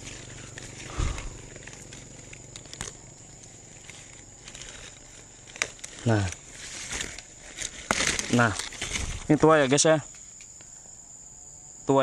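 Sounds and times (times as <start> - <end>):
high-pitched hiss: 0.0 - 12.0
rustling in a tree: 0.0 - 12.0.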